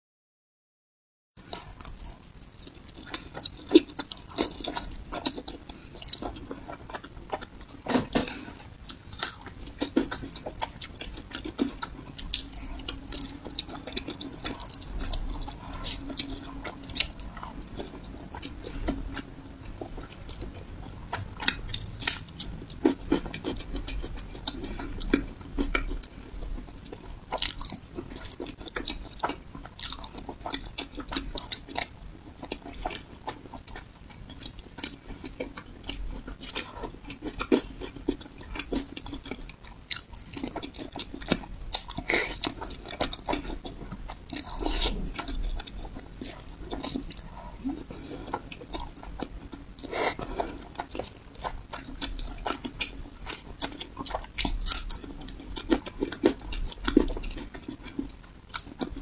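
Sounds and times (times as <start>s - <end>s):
biting and chewing: 1.4s - 59.0s.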